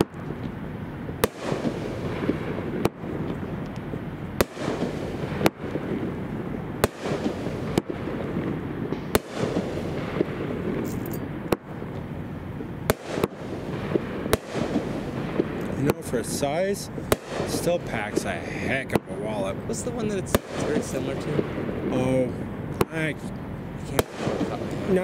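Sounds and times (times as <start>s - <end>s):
firework hiss: 0.0s - 25.0s
firework reports: 0.0s - 25.0s.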